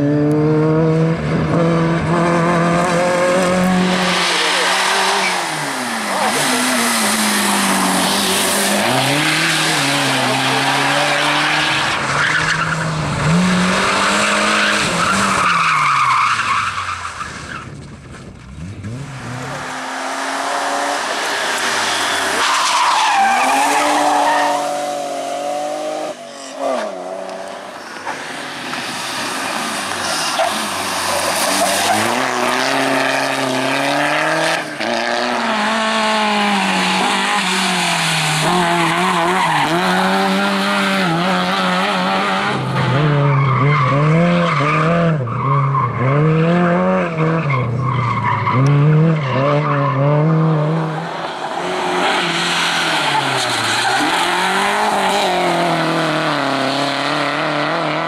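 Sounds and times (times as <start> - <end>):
car engine revving hard: 0.0 - 15.6, 18.6 - 27.4, 30.0 - 47.7, 48.4 - 58.0.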